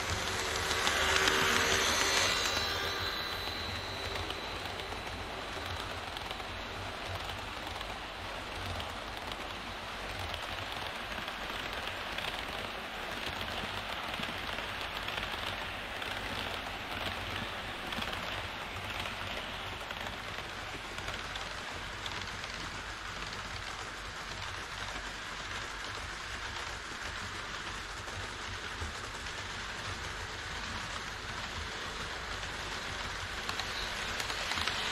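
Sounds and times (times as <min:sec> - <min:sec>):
model train wheels rushing: 0:00.0 - 0:34.9.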